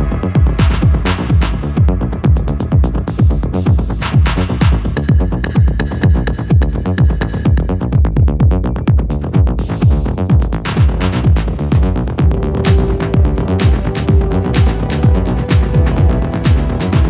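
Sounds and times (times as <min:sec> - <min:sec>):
electronic dance music: 0:00.0 - 0:07.7, 0:08.9 - 0:17.0.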